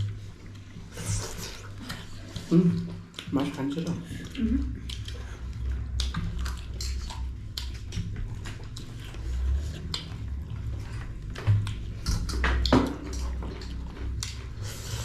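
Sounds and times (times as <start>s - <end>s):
chewing and mouth smacking: 0.0s - 15.0s
low steady hum: 0.0s - 15.0s.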